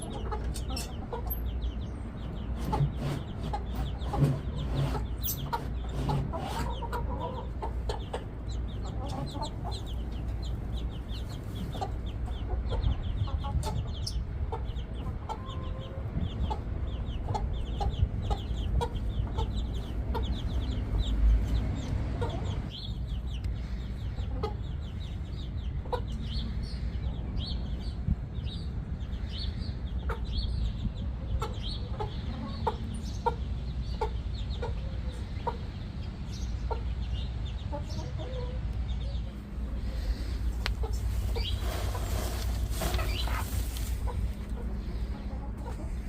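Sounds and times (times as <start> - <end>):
chickens clucking: 0.0 - 46.0
steady low rumble: 7.0 - 46.0.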